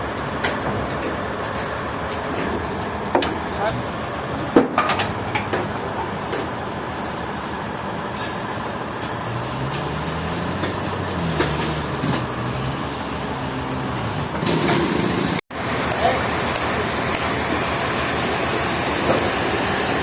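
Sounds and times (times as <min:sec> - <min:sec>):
heavy engine running: 0:00.0 - 0:20.0.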